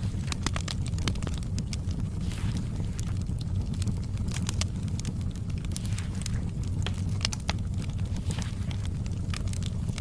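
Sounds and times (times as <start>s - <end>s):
low rumble of flames: 0.0s - 10.0s
wood fire crackling: 0.0s - 10.0s.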